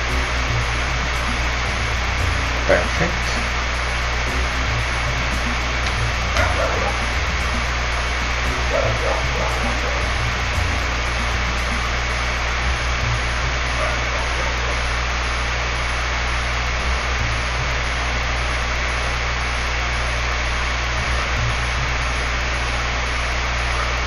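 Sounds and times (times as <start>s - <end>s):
low hum: 0.0s - 24.0s
steady hiss: 0.0s - 24.0s.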